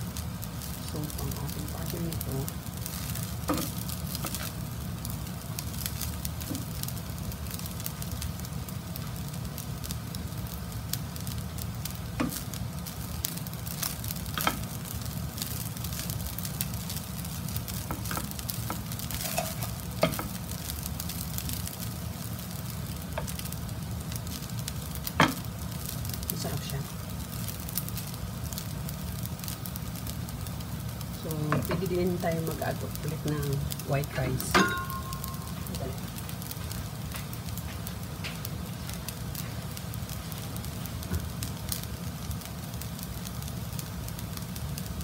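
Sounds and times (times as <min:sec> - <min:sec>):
rice sizzling in frying pan: 0:00.0 - 0:45.0.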